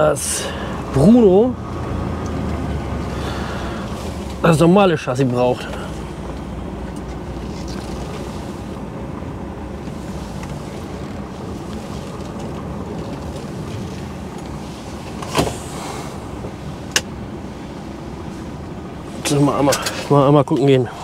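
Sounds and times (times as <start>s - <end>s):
diesel engine low rumble: 0.0s - 21.0s
road noise: 0.0s - 21.0s.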